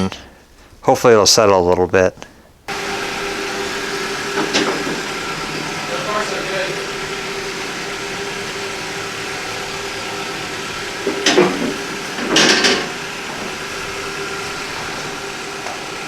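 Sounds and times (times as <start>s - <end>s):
car engine hum inside cabin: 2.7s - 16.0s.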